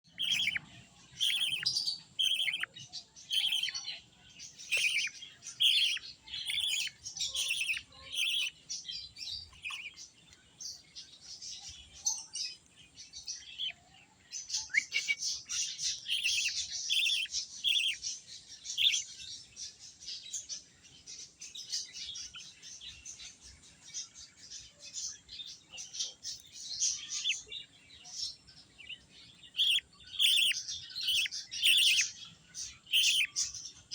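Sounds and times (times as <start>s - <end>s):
baby bird chirping: 0.0s - 20.6s, 21.2s - 33.9s.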